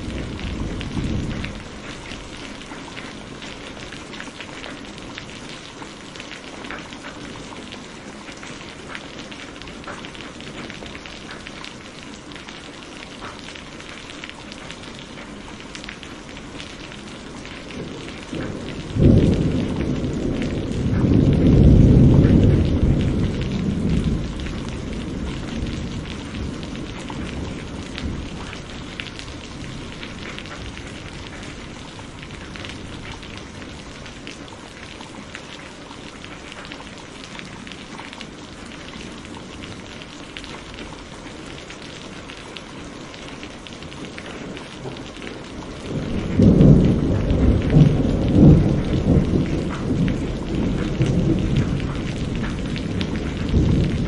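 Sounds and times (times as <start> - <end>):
thunder crack and rumble: 0.0 - 7.7, 15.1 - 54.0
heavy rain: 0.0 - 54.0.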